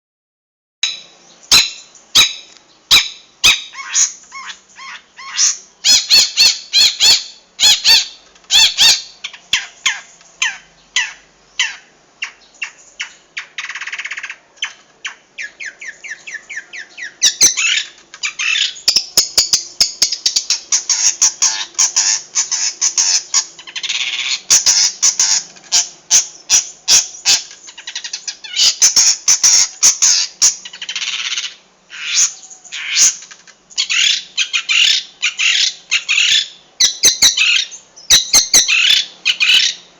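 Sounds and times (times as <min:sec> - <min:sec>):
buzzy bird trill: 0:00.8 - 0:39.9.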